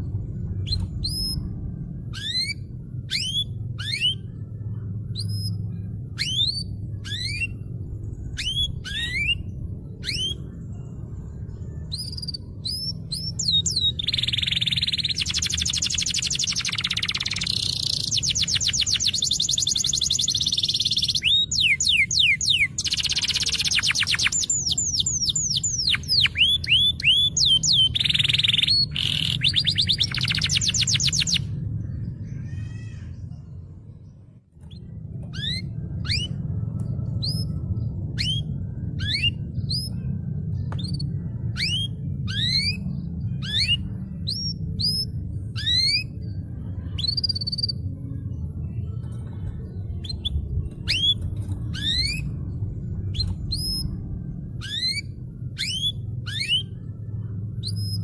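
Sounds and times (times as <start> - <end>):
steady low hum: 0.0 - 58.0
canary singing: 0.6 - 33.4, 34.6 - 48.0, 48.6 - 58.0.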